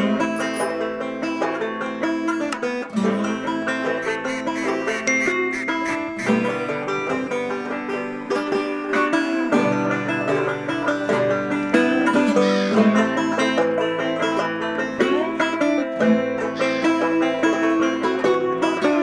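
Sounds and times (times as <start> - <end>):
plucked string instrumental music: 0.0 - 19.0.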